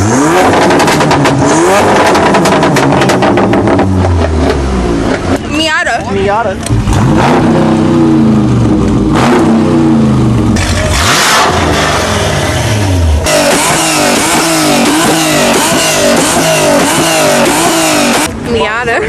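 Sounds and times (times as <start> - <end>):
car engine revving: 0.0 - 18.5.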